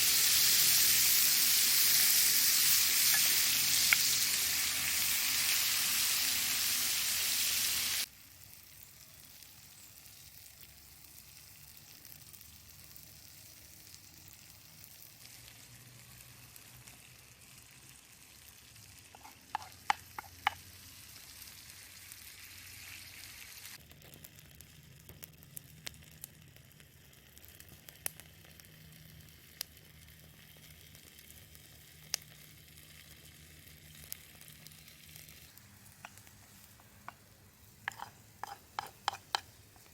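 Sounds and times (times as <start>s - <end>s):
faint steady hiss: 0.0s - 23.8s, 27.8s - 39.9s
food sizzling in a pan: 0.0s - 39.9s.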